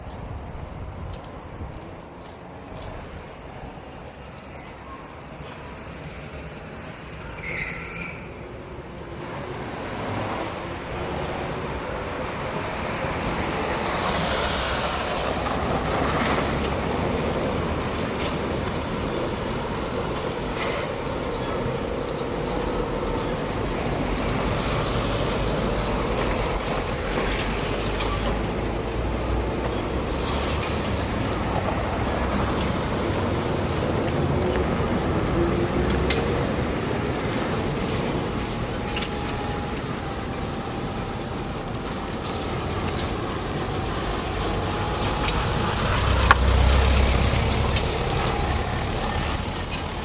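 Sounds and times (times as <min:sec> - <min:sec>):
traffic driving past: 0:00.0 - 0:50.0.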